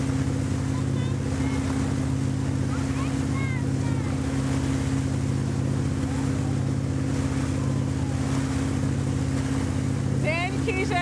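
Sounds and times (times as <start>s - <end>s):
motorboat engine drone: 0.0s - 11.0s
water rushing: 0.0s - 11.0s.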